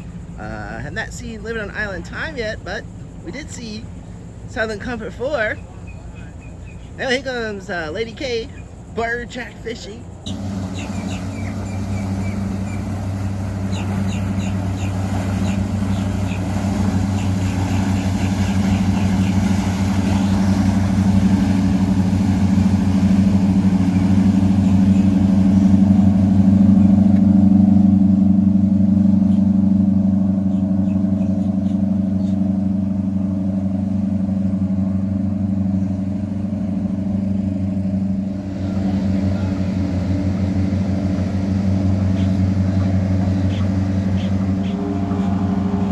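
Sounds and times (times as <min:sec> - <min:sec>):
boat engines droning: 0:00.0 - 0:45.9.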